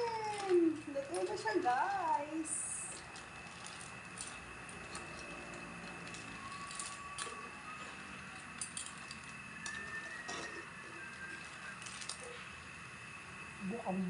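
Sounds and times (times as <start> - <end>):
steady background hiss: 0.0 - 14.0
clam shells clinking: 0.1 - 10.6, 11.3 - 12.5.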